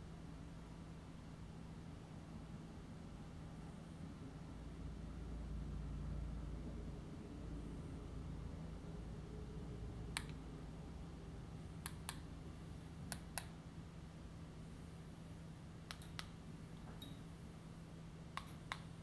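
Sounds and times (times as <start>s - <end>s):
faint low steady hum: 0.0s - 19.0s.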